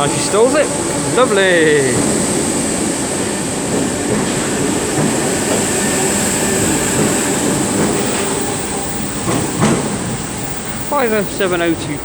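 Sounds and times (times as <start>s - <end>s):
electric train pulling away: 0.0s - 12.0s.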